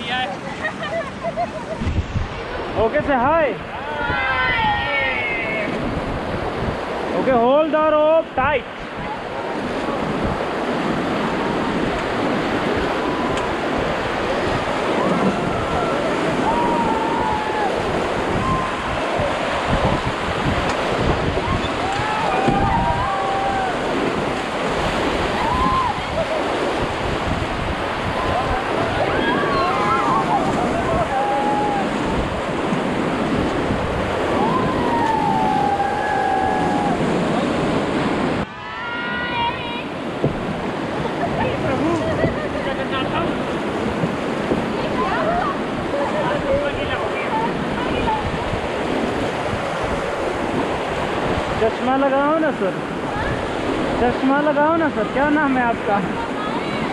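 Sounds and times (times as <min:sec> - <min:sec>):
whitewater rushing: 0:00.0 - 0:56.9.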